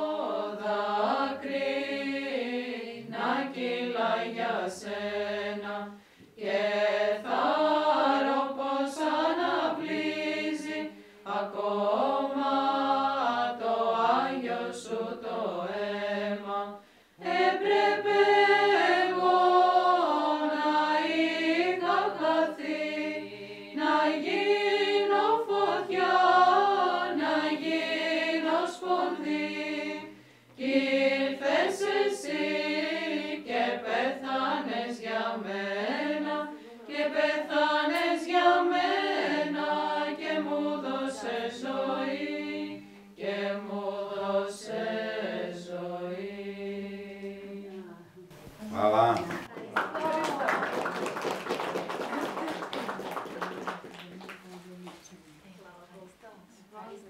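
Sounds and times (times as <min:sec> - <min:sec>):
women's choir singing a hymn: 0:00.0 - 0:54.1.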